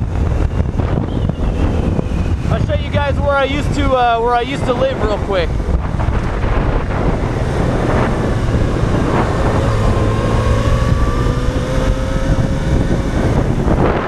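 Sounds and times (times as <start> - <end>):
motorcycle engine drone: 0.0 - 14.0
wind noise on microphone: 0.0 - 14.0.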